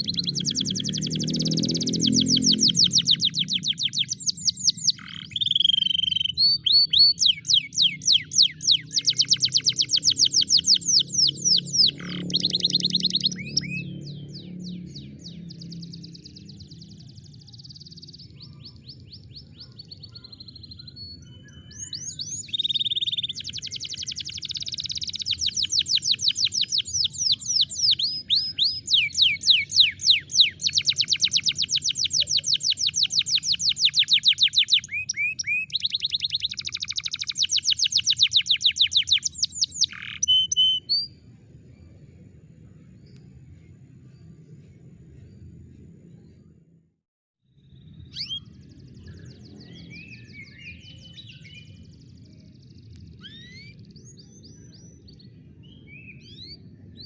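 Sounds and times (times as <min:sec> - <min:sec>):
canary singing trills: 0:00.0 - 0:41.2, 0:47.7 - 0:56.8.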